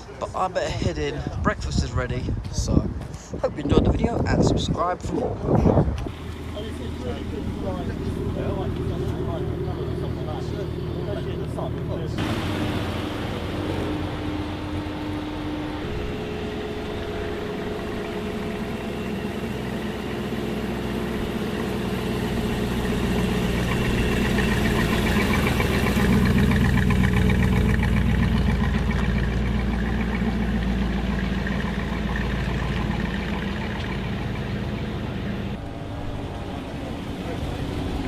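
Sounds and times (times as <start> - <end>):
car engine running: 5.8 - 38.0.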